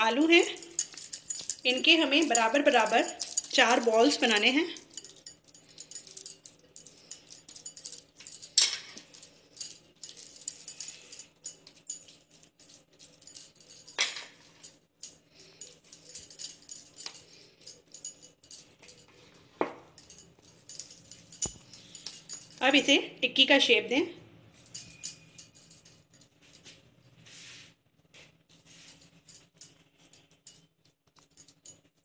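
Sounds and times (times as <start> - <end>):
bangles jingling and clinking: 0.0 - 27.5, 28.1 - 32.0.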